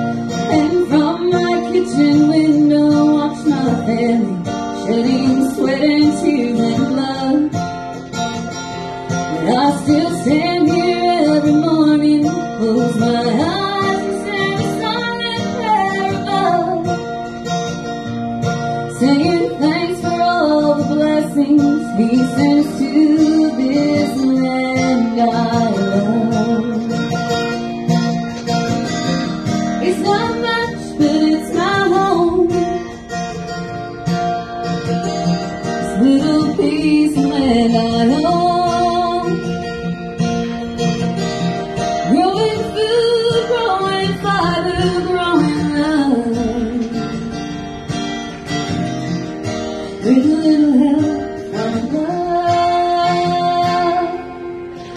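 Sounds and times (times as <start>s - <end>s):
woman singing: 0.0s - 17.2s, 18.5s - 27.4s, 29.4s - 33.6s, 35.6s - 40.1s, 41.8s - 47.9s, 49.6s - 54.9s
strummed acoustic guitar: 0.0s - 54.9s.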